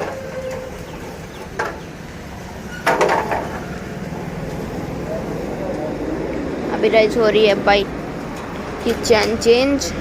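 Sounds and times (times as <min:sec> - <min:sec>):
traffic hum: 0:00.0 - 0:10.0.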